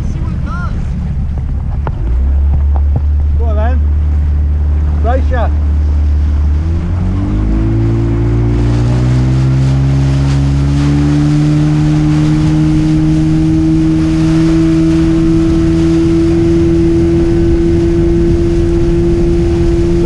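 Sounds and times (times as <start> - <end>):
outboard motor running hard: 0.0 - 20.0
water rushing along hull: 0.0 - 20.0
wind buffeting microphone: 0.0 - 20.0.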